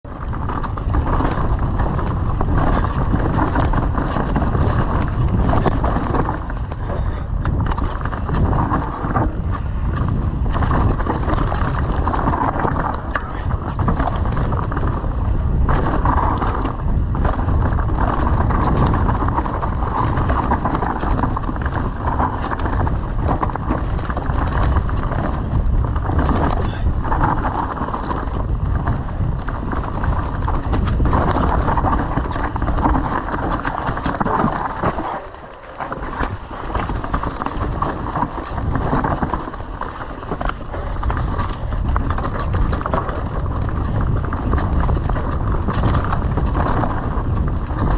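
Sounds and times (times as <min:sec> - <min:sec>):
bike rattling and clattering: 0:00.0 - 0:47.9
tyres rumbling on dirt: 0:00.0 - 0:47.9.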